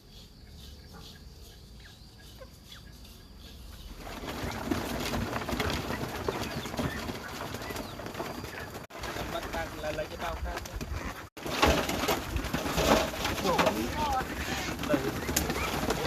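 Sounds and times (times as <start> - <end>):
poultry calls: 0.0 - 11.3, 13.4 - 16.0
wings flapping and rustling: 2.2 - 16.0.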